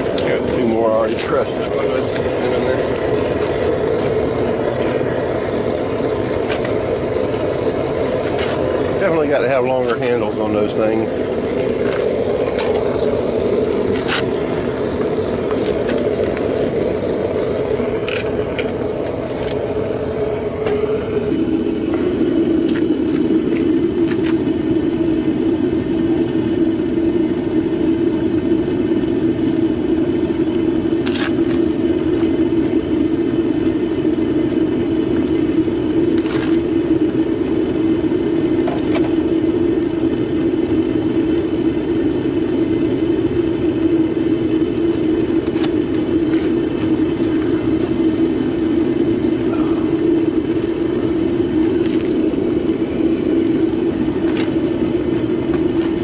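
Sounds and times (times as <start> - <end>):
propane burner roaring: 0.0 - 56.0.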